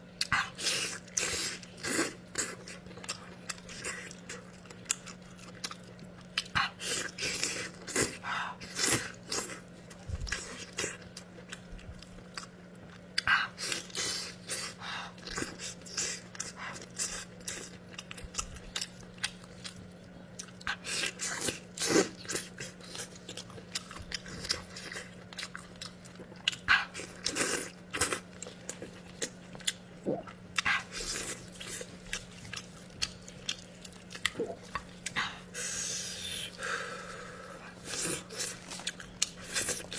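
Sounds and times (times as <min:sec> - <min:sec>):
faint steady hum: 0:00.0 - 0:39.9
person chewing with mouth smacks: 0:00.2 - 0:36.7, 0:37.6 - 0:39.9.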